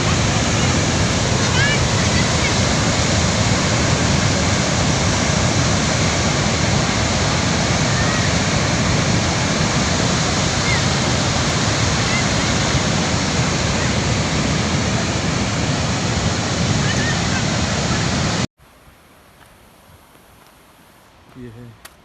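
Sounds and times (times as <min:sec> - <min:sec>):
river rushing: 0:00.0 - 0:18.5.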